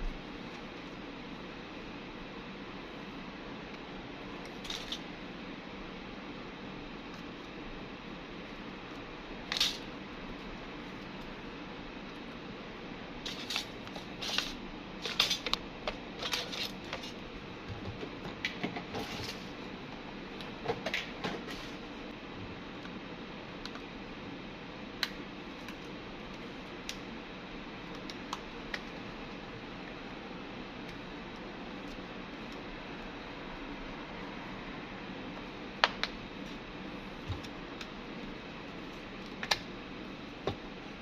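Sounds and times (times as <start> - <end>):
steady background hiss: 0.0 - 41.0.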